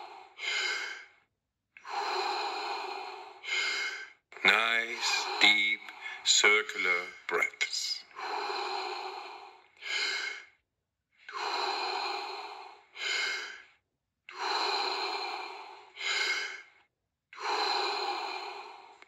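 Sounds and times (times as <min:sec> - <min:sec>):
person breathing deeply: 0:00.0 - 0:01.2, 0:01.8 - 0:07.4, 0:08.1 - 0:10.6, 0:11.3 - 0:16.8, 0:17.4 - 0:19.0.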